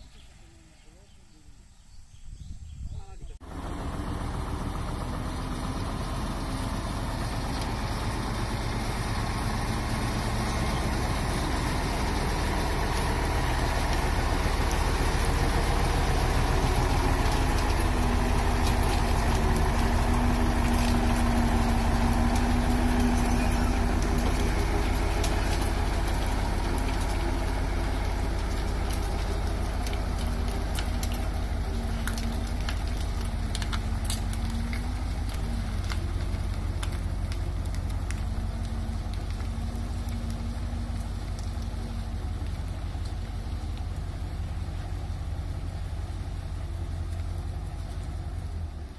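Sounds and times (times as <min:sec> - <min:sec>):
diesel truck driving past: 0:03.4 - 0:48.9.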